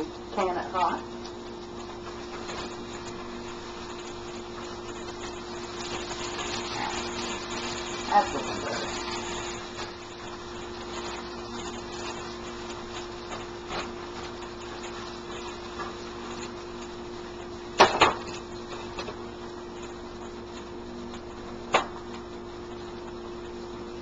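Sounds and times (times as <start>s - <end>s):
hash browns sizzling in a pan: 0.0s - 24.0s
steady low hum: 0.0s - 24.0s.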